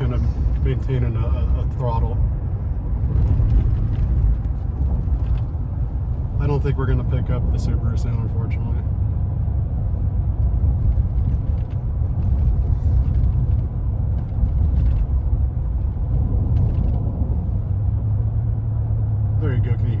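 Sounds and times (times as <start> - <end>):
road noise: 0.0 - 20.0
truck exhaust rumble: 0.0 - 20.0.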